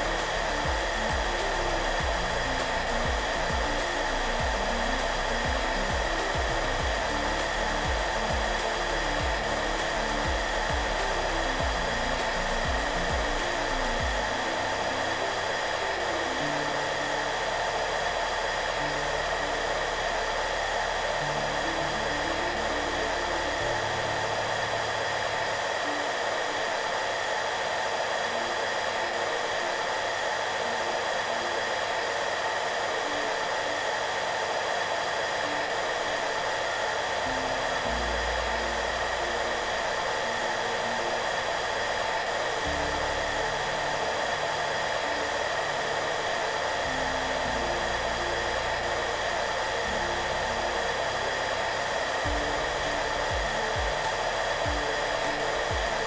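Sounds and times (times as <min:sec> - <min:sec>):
hair dryer running: 0:00.0 - 0:56.0
soft background music: 0:00.0 - 0:56.0.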